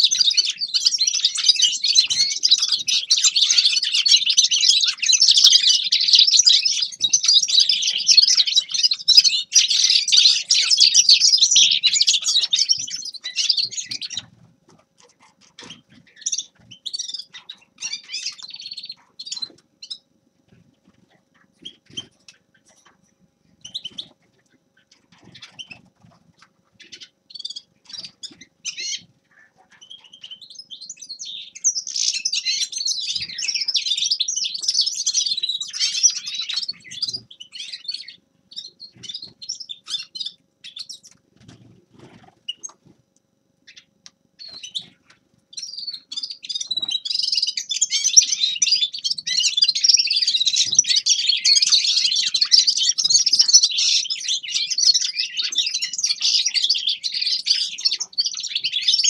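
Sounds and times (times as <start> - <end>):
finch singing: 0.0 - 42.9, 43.6 - 59.0.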